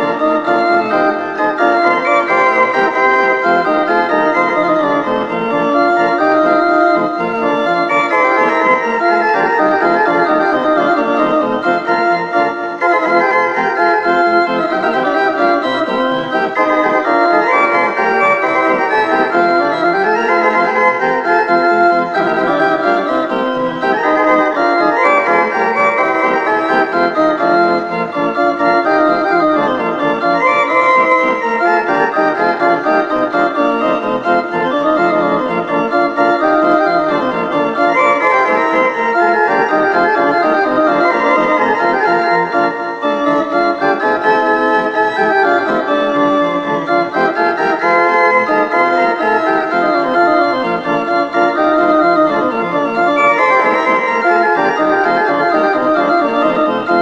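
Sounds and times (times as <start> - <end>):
instrumental music: 0.0 - 57.0.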